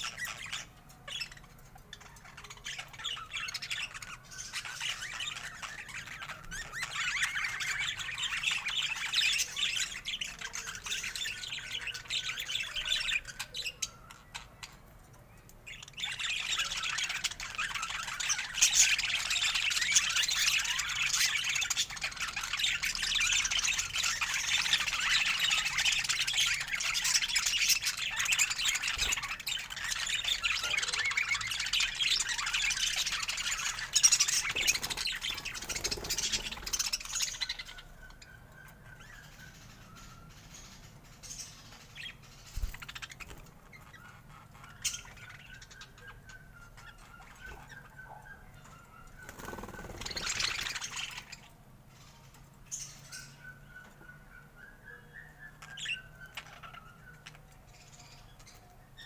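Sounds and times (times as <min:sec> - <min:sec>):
budgerigars chattering: 0:00.0 - 0:14.8, 0:15.7 - 0:58.7.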